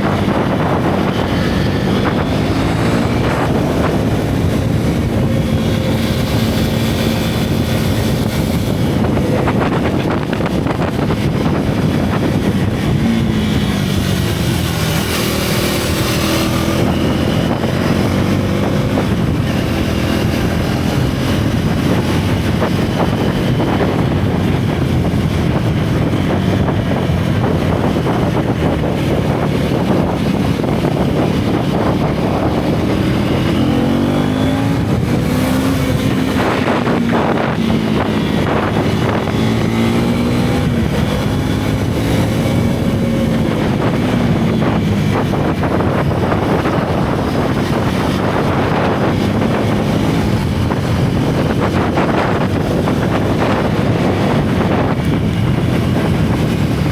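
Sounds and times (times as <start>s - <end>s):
motorcycle engine running: 0.0s - 56.9s
wind on microphone: 0.0s - 56.9s.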